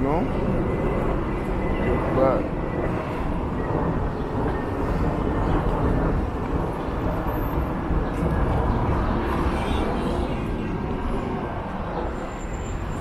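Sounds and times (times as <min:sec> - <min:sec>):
low rumbling outdoor noise: 0:00.0 - 0:13.0.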